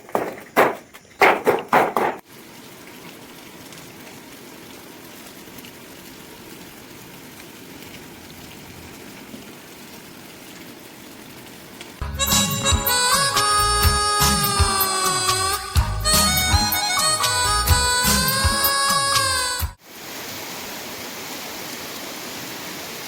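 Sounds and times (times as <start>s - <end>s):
steady rain falling: 2.2s - 23.0s.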